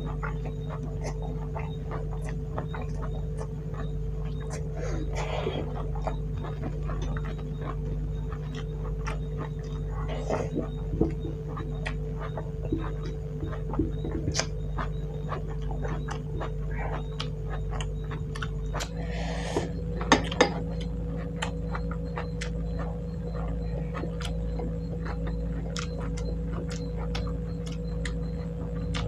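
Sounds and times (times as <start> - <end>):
chewing and wet mouth sounds: 0.0 - 29.0
steady low hum: 0.0 - 29.0.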